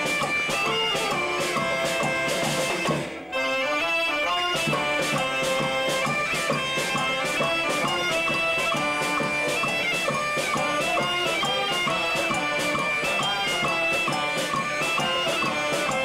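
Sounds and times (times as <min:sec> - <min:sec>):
steady drum beat: 0:00.0 - 0:03.5, 0:04.1 - 0:16.0
saxophone melody: 0:00.0 - 0:16.0.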